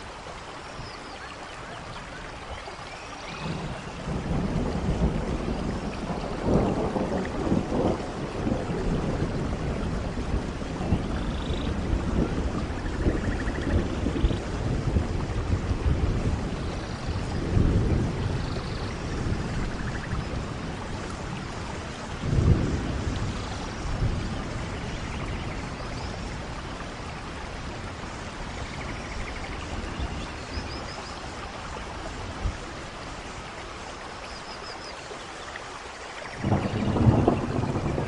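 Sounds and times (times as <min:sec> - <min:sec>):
steady rain: 0:00.0 - 0:38.0
thunder rumbling: 0:03.3 - 0:33.2, 0:36.3 - 0:38.0.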